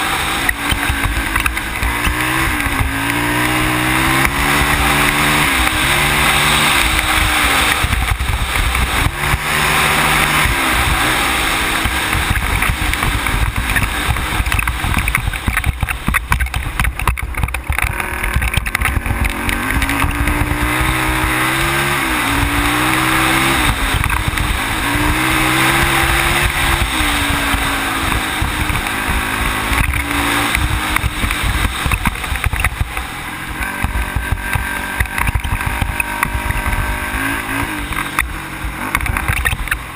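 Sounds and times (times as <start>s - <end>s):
atv engine revving: 0.0s - 39.9s
wind and road noise: 0.0s - 39.9s.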